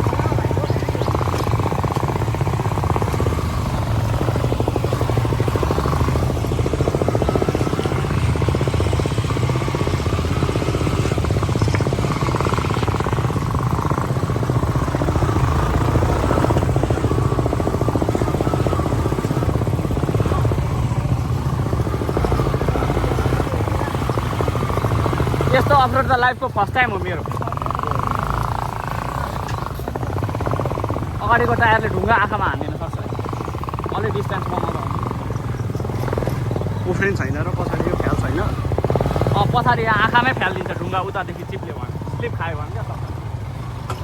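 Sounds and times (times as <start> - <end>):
motorcycle engine on dirt road: 0.0 - 44.0.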